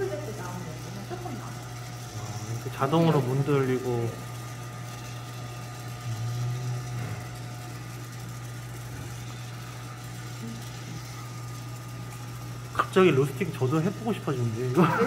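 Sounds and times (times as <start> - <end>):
coffee roaster motor and fan hum: 0.0 - 15.0.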